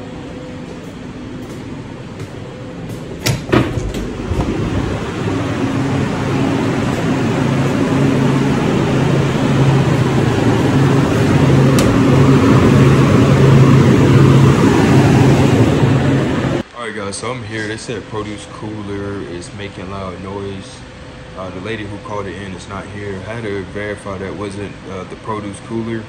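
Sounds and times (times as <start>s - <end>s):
cooler fans humming: 0.0s - 26.0s.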